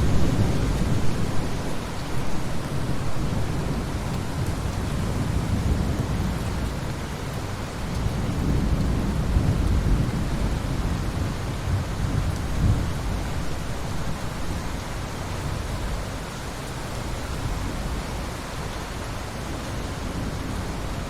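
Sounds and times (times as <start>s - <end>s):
rain falling in a forest: 0.0s - 21.0s.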